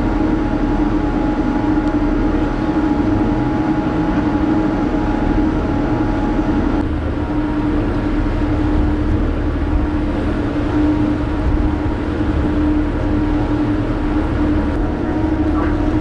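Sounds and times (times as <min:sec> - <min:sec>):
ship engines droning: 0:00.0 - 0:16.0.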